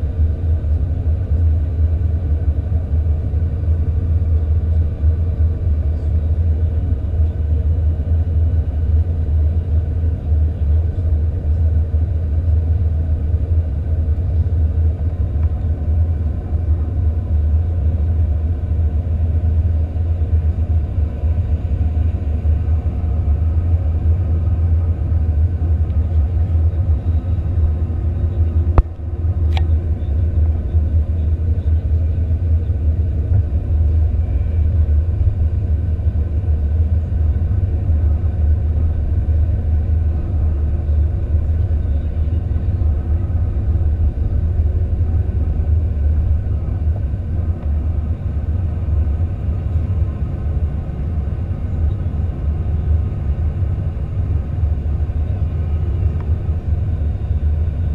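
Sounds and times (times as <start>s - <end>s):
jet engine cabin rumble: 0.0s - 57.9s.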